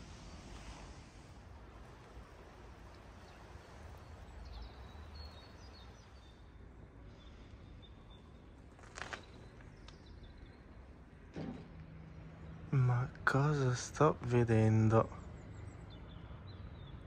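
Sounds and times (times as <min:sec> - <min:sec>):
faint steady hiss: 0:00.0 - 0:15.3.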